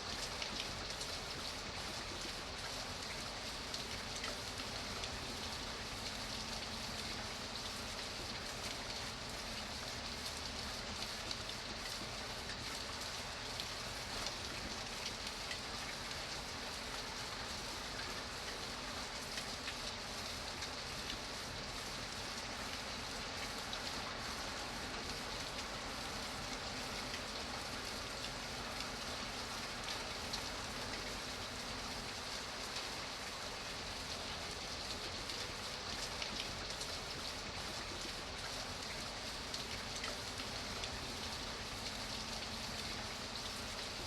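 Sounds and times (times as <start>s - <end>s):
rain pattering: 0.1s - 44.0s.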